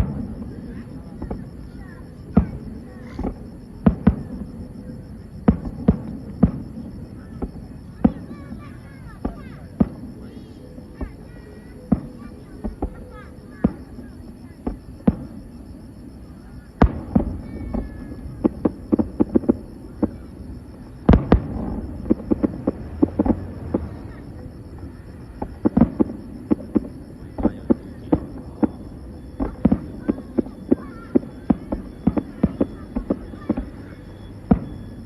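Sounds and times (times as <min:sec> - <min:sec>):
fireworks bangs and pops: 0:00.0 - 0:04.5, 0:05.4 - 0:10.4, 0:11.0 - 0:15.5, 0:16.8 - 0:35.0
loud fireworks booms: 0:00.0 - 0:35.0.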